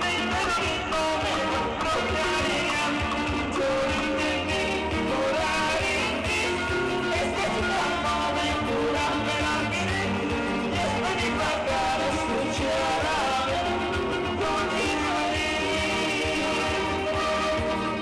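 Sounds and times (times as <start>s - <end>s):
live band playing: 0.0s - 18.0s
person singing: 0.0s - 18.0s.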